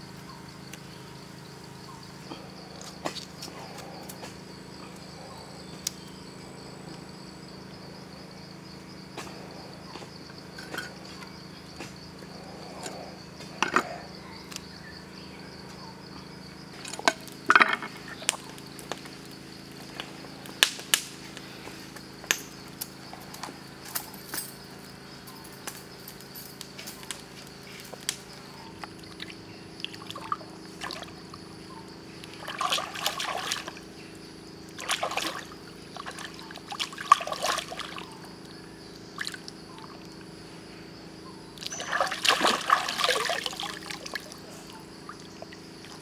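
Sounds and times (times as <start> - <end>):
insect drone: 0.0 - 46.0.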